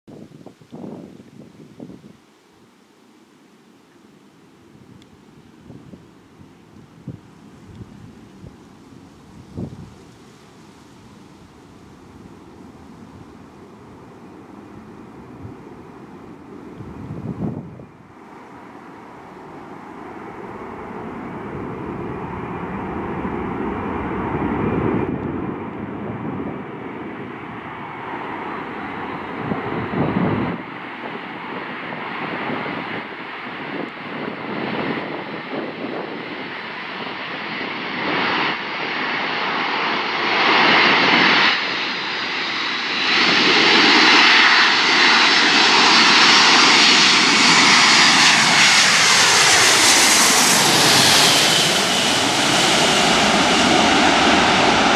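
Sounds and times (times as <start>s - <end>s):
high turbine whine: 5.7s - 54.9s
jet engines roaring: 10.2s - 54.9s.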